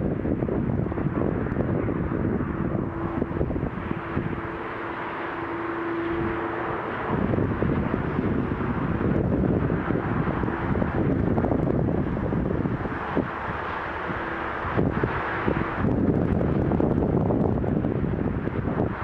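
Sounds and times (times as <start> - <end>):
distant motorway traffic: 0.0 - 19.0
steady hum: 0.0 - 19.0
wind buffeting microphone: 0.0 - 19.0.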